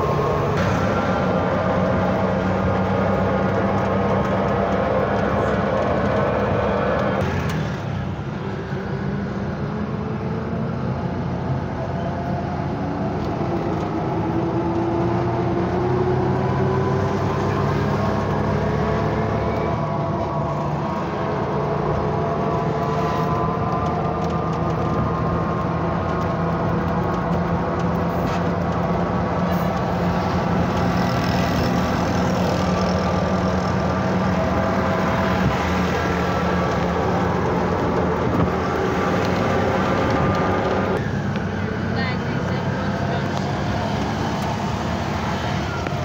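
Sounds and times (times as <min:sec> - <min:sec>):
auto-rickshaw engine running: 0:00.0 - 0:46.0.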